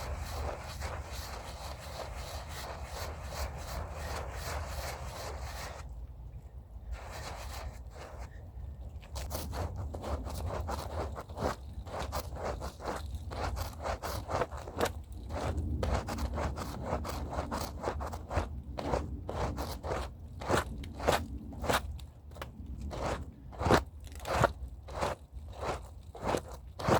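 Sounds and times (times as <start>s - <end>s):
scrub brush scrubbing a rug: 0.0s - 5.8s, 9.2s - 26.9s
low steady rumble: 0.0s - 26.8s.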